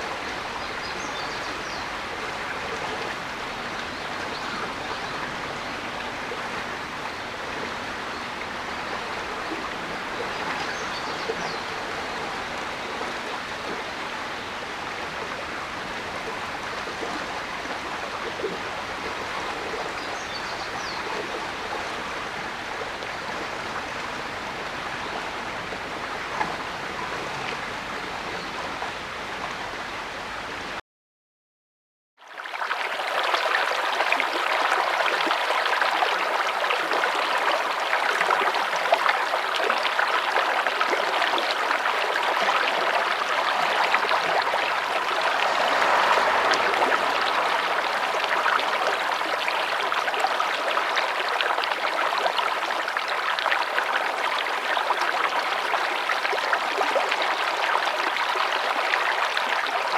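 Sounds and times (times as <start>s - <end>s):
stream water rushing: 0.0s - 30.8s, 32.2s - 59.9s.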